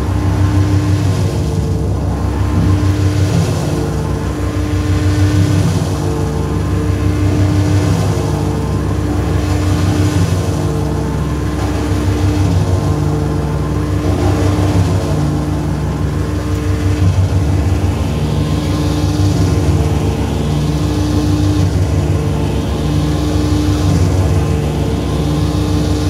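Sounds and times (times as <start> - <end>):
noisy high sweeps: 0.0 - 26.0
synthesizer drone: 0.0 - 26.0.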